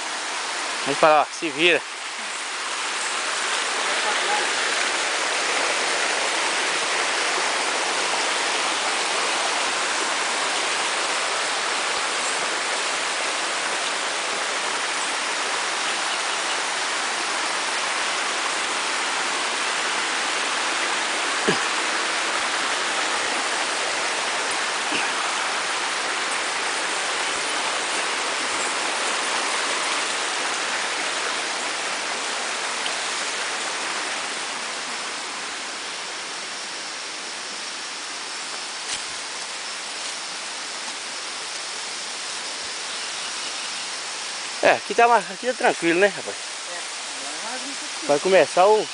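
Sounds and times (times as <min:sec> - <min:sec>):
waterfall roar: 0:00.0 - 0:48.9.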